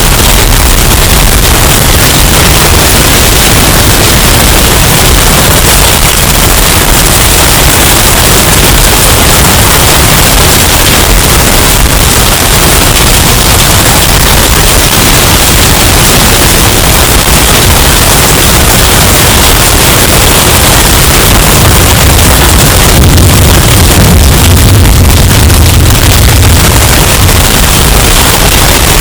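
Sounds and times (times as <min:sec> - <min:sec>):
distorted storm wind: 0:00.0 - 0:29.0.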